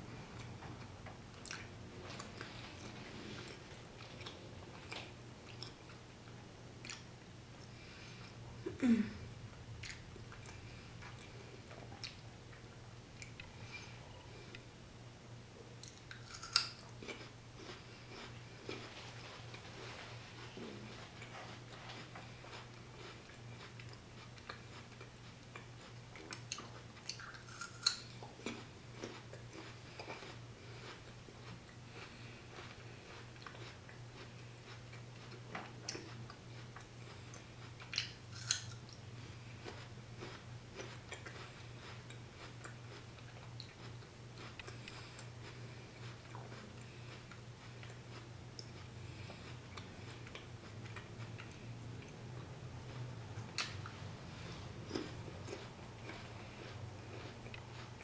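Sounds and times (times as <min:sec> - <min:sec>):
crunchy chewing: 0:01.4 - 0:08.4, 0:15.7 - 0:58.0.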